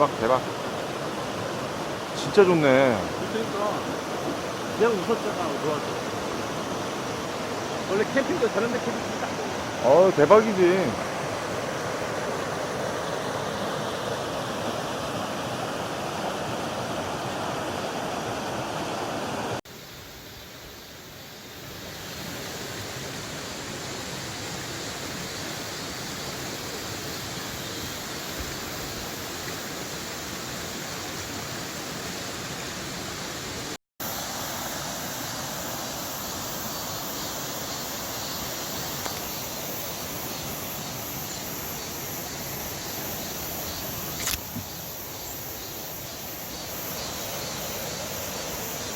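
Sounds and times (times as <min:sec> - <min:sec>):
stream rushing over rocks: 0:00.0 - 0:20.2, 0:21.0 - 0:48.9.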